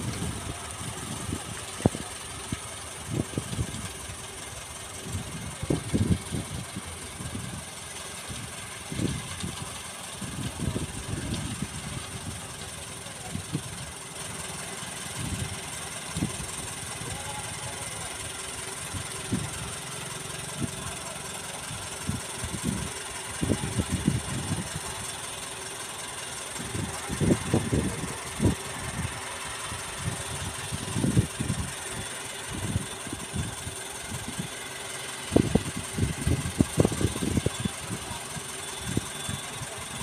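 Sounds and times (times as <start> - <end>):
concrete pouring down chute: 0.0 - 40.0
distant diesel engine running: 0.0 - 40.0.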